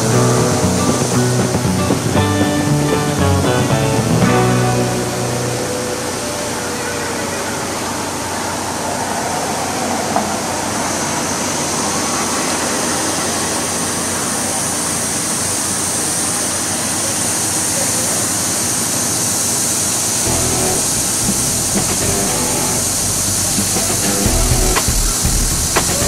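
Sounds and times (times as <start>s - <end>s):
idling train hiss and hum: 0.0s - 26.0s.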